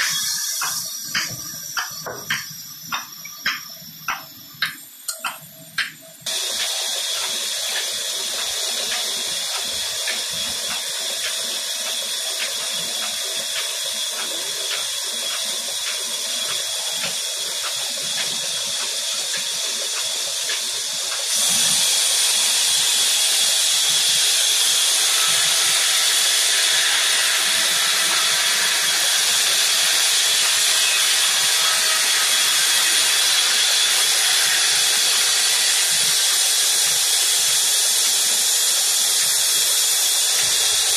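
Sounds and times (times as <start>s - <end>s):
band saw cutting timber: 0.0s - 4.2s, 5.8s - 40.9s.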